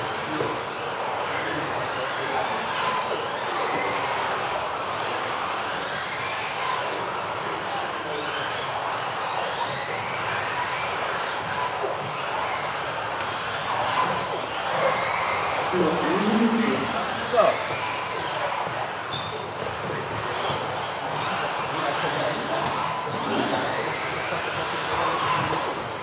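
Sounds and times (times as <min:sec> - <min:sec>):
rc car motors whining: 0:00.0 - 0:26.0.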